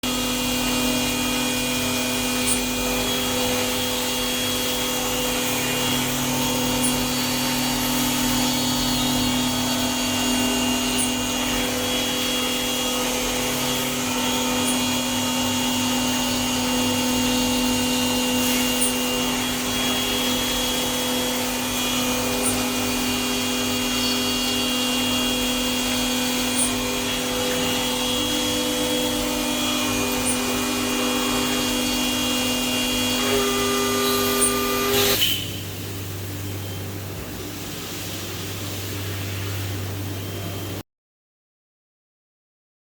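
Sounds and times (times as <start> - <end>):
machine humming: 0.0 - 40.8.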